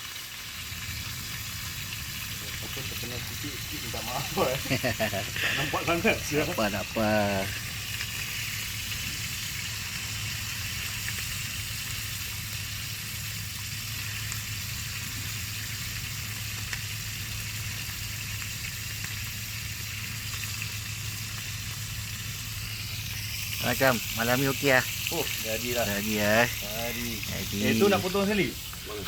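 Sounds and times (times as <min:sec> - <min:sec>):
fish sizzling in a pan: 0:00.0 - 0:29.0.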